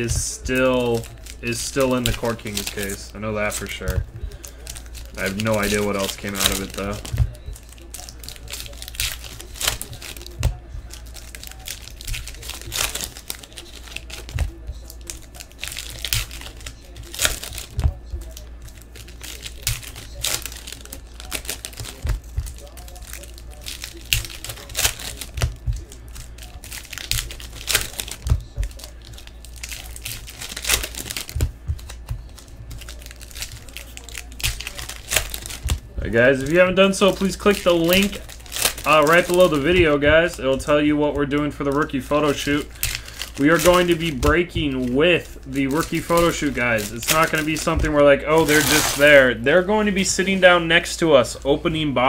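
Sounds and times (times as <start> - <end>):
cards flipped and shuffled: 0.0 - 49.2
foil wrapper crinkling: 0.0 - 52.0.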